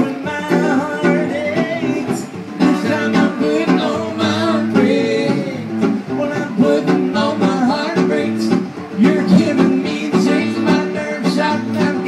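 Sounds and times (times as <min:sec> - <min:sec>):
acoustic guitars strumming: 0:00.0 - 0:12.0
person singing: 0:00.0 - 0:12.0.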